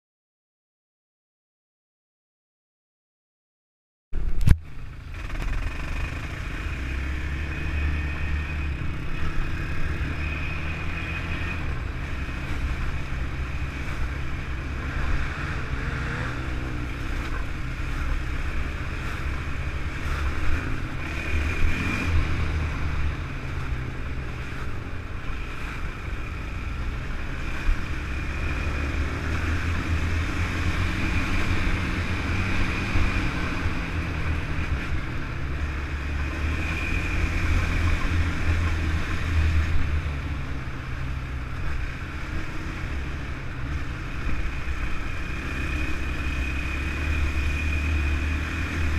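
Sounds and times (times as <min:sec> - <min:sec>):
quad engine running: 0:04.2 - 0:48.9.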